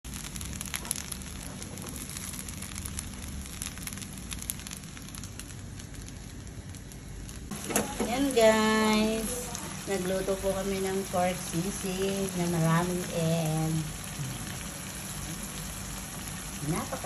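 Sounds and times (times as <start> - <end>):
rice sizzling in oil: 0.0 - 17.0.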